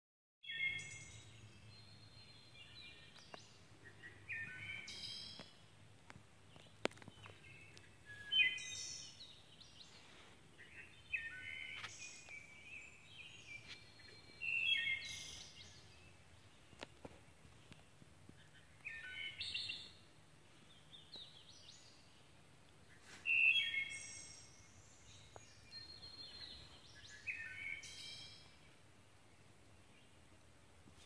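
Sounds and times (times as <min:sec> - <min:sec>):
songbird singing: 0:00.4 - 0:31.0.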